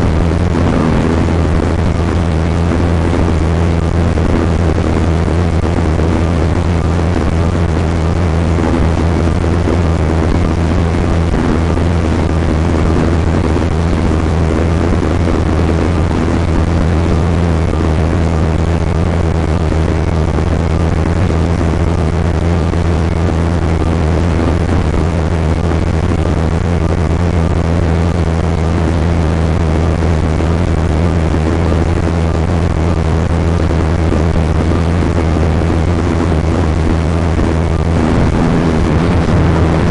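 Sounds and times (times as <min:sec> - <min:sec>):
engine droning steadily: 0:00.0 - 0:39.9.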